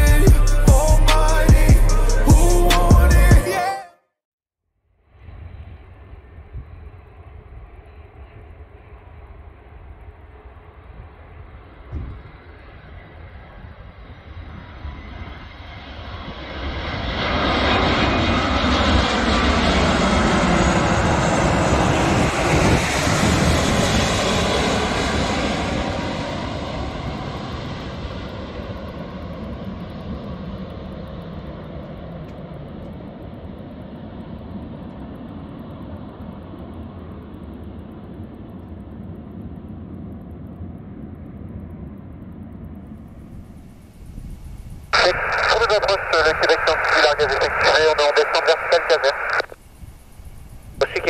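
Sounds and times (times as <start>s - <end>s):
jet aircraft passing: 5.1s - 51.0s.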